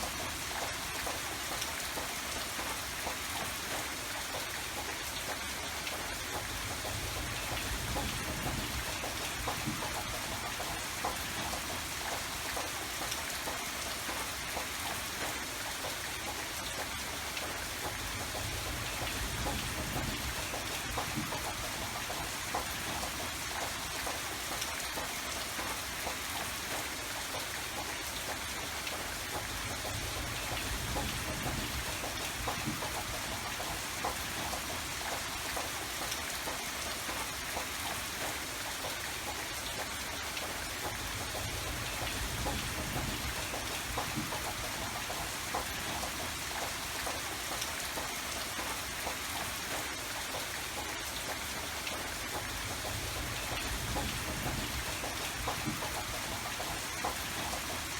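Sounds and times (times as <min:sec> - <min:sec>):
rain drops ticking on surfaces: 0:00.0 - 0:57.9.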